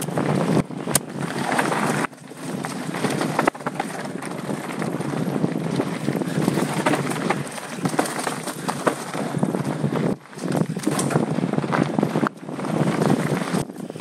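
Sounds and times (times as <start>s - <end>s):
bike rattling over bumps: 0.0s - 14.0s
tyres rushing on loose dirt: 0.0s - 14.0s
wind buffeting microphone: 0.0s - 14.0s.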